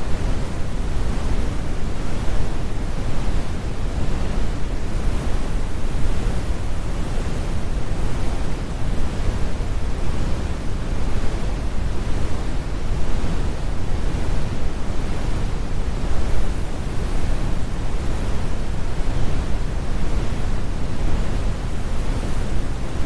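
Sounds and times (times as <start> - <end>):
deep brown noise: 0.0 - 23.0.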